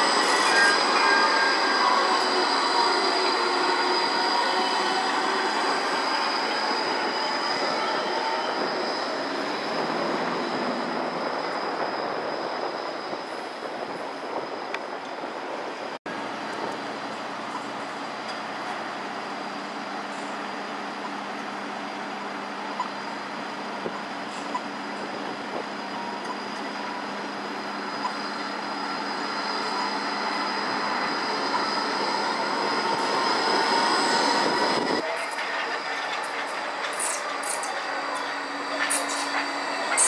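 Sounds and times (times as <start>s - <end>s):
high wheel squeal: 0.0s - 15.3s, 22.1s - 40.0s
tram running on track: 0.0s - 40.0s.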